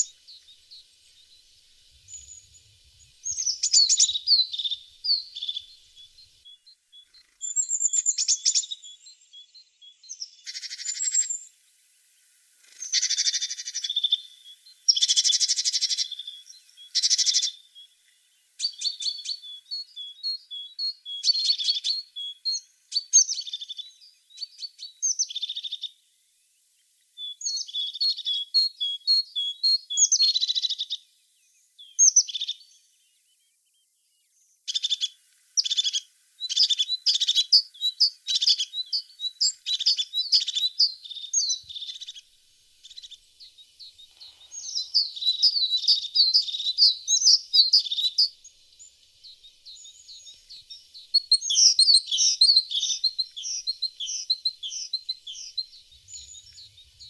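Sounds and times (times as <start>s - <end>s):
bird singing high chirps: 0.0s - 11.5s, 12.8s - 25.9s, 27.2s - 31.0s, 31.8s - 32.8s, 34.7s - 57.0s.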